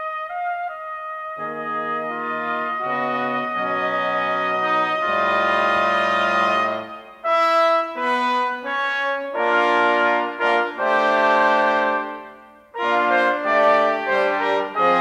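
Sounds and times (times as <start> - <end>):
brass quintet playing: 0.0 - 15.0.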